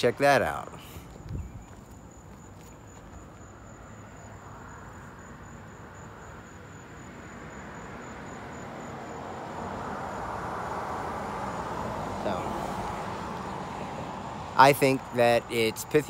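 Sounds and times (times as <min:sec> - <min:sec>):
passing vehicle road noise: 0:00.0 - 0:16.0
insects trilling: 0:00.5 - 0:16.0.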